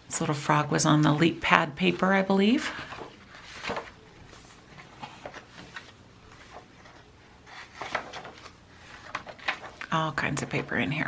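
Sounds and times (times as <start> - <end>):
paper pages rustling: 1.0 - 10.9.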